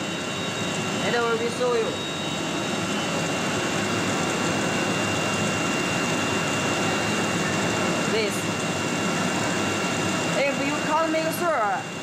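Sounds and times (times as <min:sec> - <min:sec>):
machinery noise: 0:00.0 - 0:11.9
high whine: 0:00.0 - 0:12.0.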